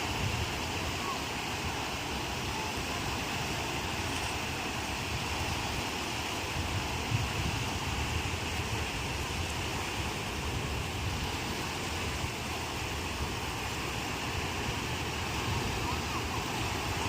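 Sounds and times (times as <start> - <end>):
ocean surf washing on shore: 0.0 - 17.0.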